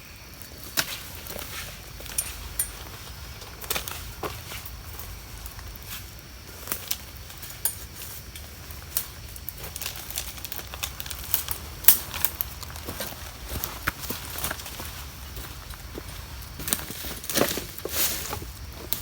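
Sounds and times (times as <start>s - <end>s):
campfire crackling with pops: 0.3s - 17.6s.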